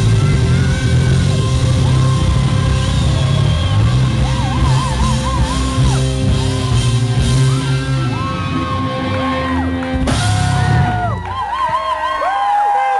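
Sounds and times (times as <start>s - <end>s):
drums and cymbals: 0.0s - 9.3s, 10.0s - 11.9s
distorted electric guitars: 0.0s - 11.8s
live rock band playing: 0.0s - 11.9s.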